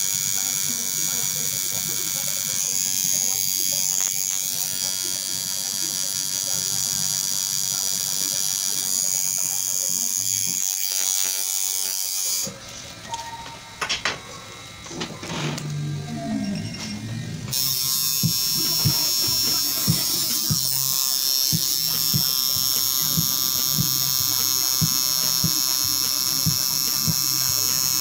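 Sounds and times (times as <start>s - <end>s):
tattoo machine buzzing: 0.0s - 28.0s.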